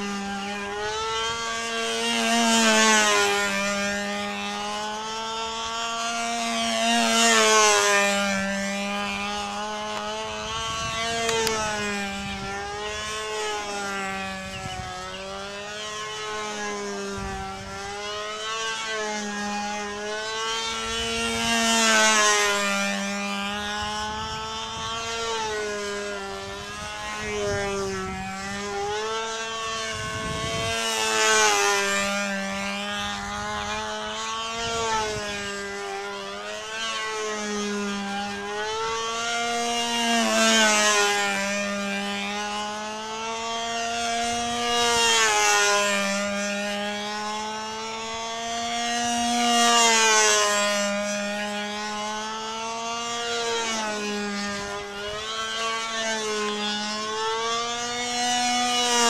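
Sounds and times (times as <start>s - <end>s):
model airplane motor buzzing: 0.0s - 59.0s.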